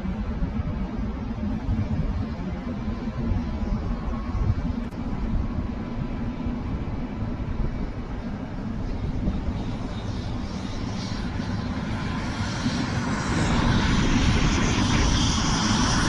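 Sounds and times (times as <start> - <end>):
helicopter turbine engines: 0.0 - 16.0.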